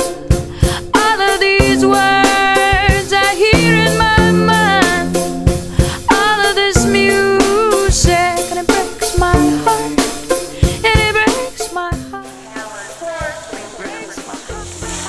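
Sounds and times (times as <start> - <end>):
pop music with drum beat: 0.0 - 15.0.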